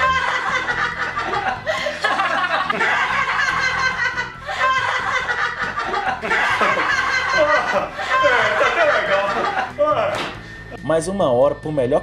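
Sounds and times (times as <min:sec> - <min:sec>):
people laughing: 0:00.0 - 0:10.3
background music: 0:00.0 - 0:12.0.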